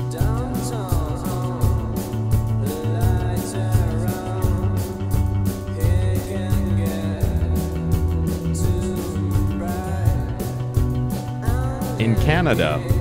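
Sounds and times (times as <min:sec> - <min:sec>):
background music with beat: 0:00.0 - 0:13.0.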